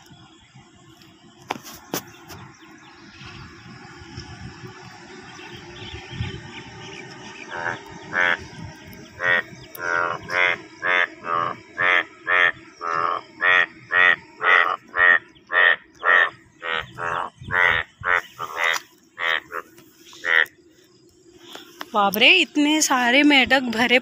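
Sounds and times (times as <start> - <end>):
frogs croaking: 1.4 - 24.0.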